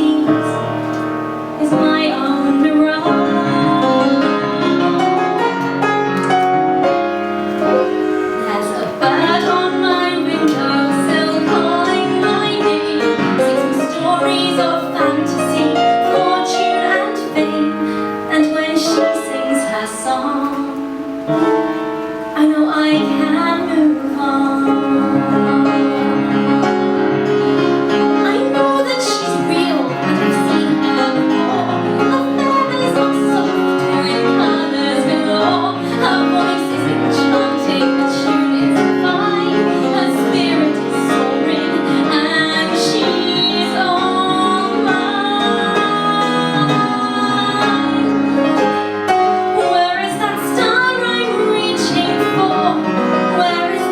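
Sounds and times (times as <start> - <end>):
piano accompaniment: 0.0 - 53.9
woman singing: 0.0 - 53.9.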